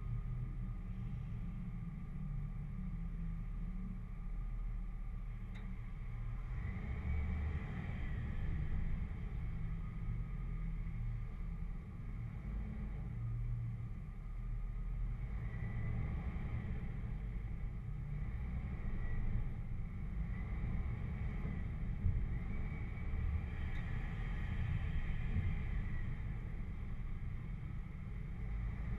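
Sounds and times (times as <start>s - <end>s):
vehicle engine low rumble: 0.0s - 28.9s.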